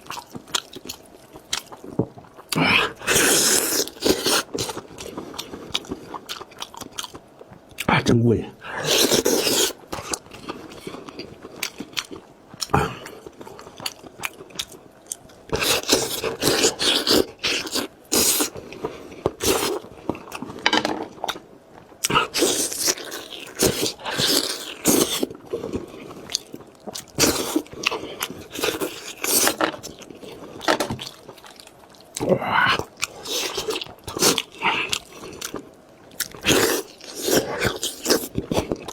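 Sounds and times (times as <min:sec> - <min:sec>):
food being bitten and chewed: 0:00.0 - 0:07.9, 0:08.8 - 0:38.9.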